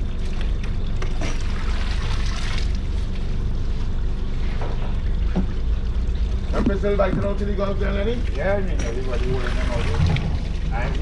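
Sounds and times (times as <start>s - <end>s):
steady low hum: 0.0s - 11.0s
water splashing and trickling: 0.0s - 11.0s.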